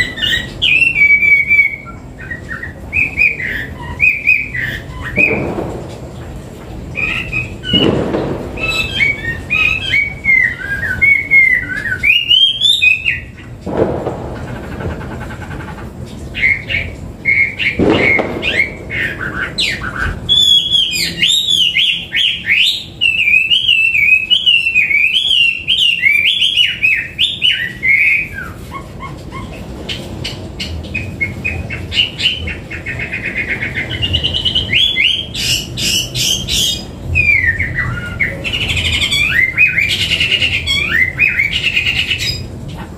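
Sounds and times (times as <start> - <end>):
laughingthrush singing whistled phrases: 0.0 - 5.5, 7.0 - 8.0, 8.6 - 13.4, 16.4 - 29.6, 30.6 - 42.5.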